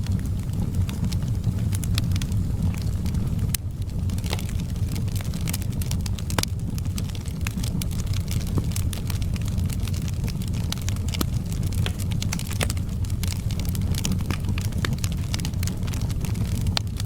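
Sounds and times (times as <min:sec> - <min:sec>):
low rumble of fire: 0:00.0 - 0:17.0
wood fire crackling: 0:00.0 - 0:17.0
sharp pops and snaps: 0:01.8 - 0:17.0.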